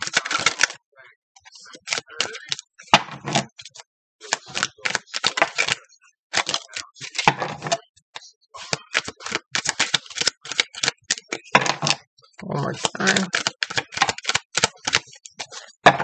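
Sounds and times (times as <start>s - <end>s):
cards being shuffled: 0.0s - 0.8s, 1.5s - 3.6s, 4.3s - 7.8s, 8.6s - 16.0s.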